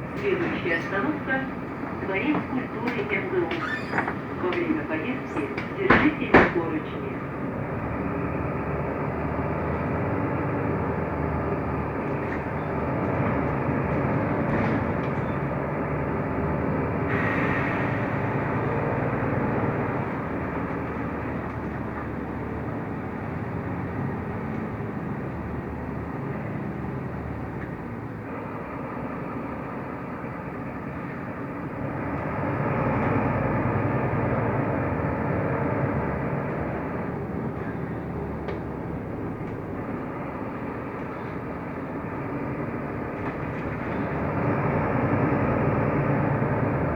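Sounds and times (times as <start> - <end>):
bus engine and road noise: 0.0 - 46.9.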